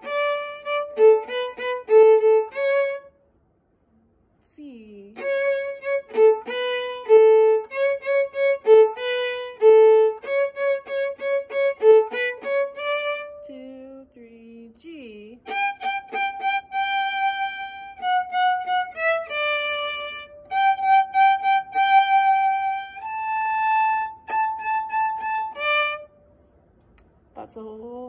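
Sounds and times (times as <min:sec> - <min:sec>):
solo violin melody: 0:00.0 - 0:03.2, 0:05.2 - 0:14.0, 0:15.4 - 0:26.2.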